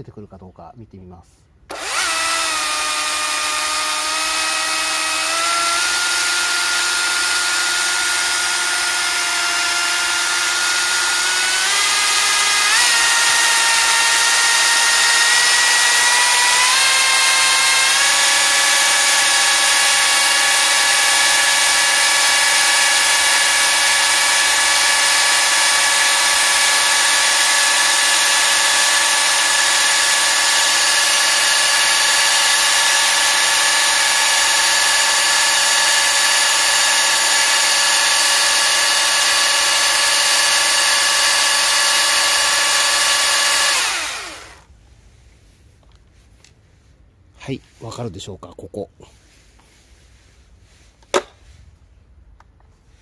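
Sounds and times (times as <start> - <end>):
electric chainsaw whine: 1.7 - 44.7.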